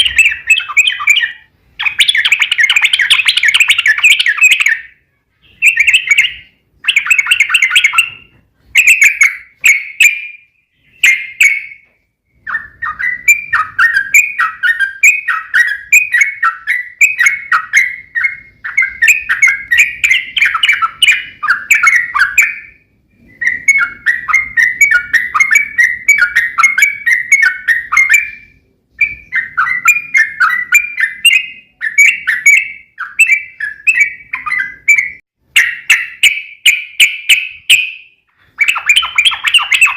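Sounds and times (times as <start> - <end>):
bird singing rolling song: 0.0 - 39.9.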